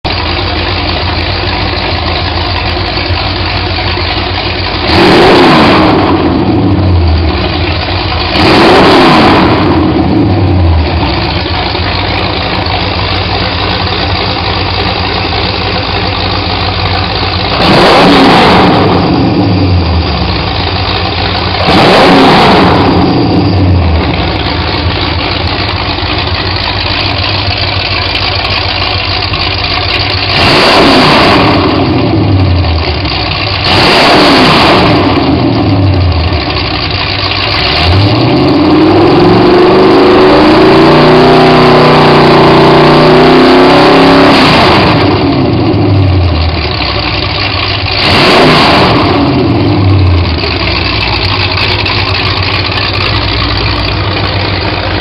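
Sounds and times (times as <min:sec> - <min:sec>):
engine idling: 0:00.0 - 0:55.0
engine revving: 0:00.1 - 0:55.0.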